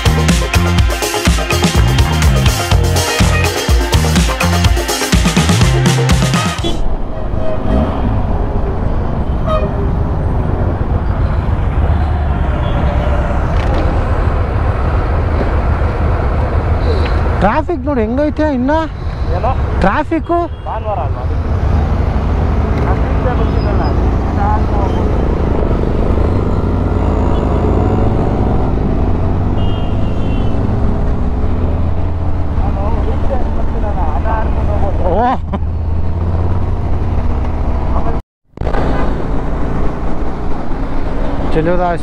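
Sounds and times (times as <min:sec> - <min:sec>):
vehicle rumble in traffic: 0:05.8 - 0:42.0.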